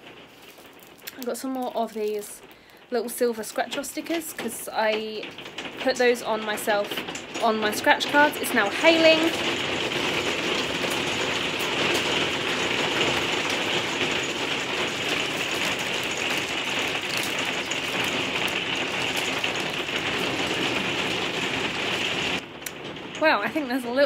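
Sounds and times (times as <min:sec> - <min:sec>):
hailstones pattering: 0:00.0 - 0:24.0.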